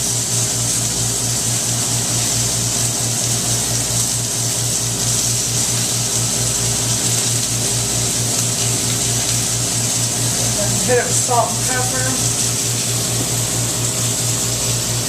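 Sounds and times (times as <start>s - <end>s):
constant high hiss: 0.0s - 15.0s.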